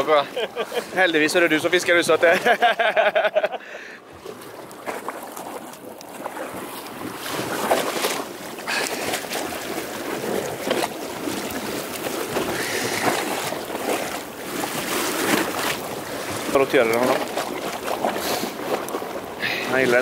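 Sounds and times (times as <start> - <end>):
water splashing against boat: 0.0 - 20.0.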